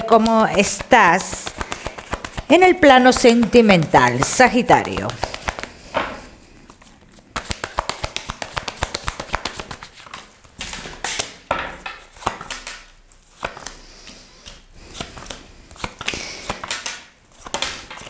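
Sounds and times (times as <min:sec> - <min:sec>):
cards sliding and tapping: 0:00.0 - 0:11.4, 0:12.0 - 0:18.0.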